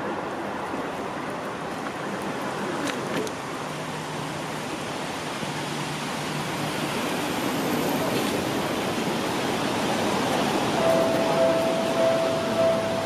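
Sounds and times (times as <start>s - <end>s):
rain: 0.0s - 13.0s
train rushing on wet track: 0.0s - 13.0s.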